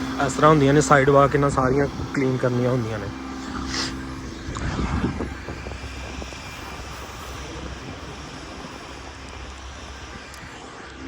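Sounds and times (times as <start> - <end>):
vehicle engine passing: 0.0 - 11.0.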